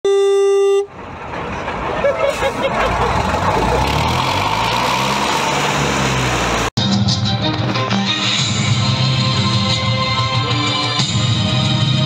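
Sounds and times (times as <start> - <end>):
armoured vehicle engine humming: 0.1 - 12.0.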